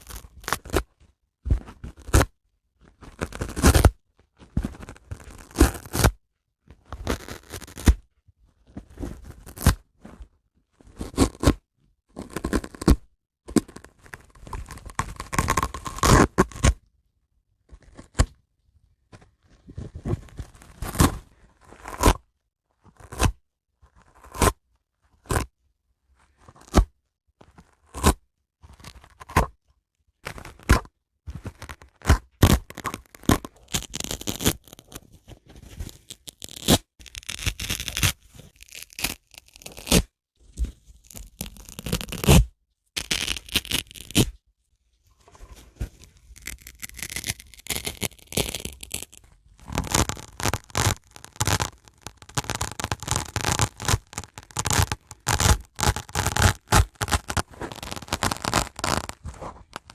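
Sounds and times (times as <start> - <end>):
dry sponge snapping and scraping: 0.0 - 8.1, 8.7 - 16.8, 19.2 - 25.5, 26.3 - 29.6, 30.2 - 44.4, 45.2 - 59.9.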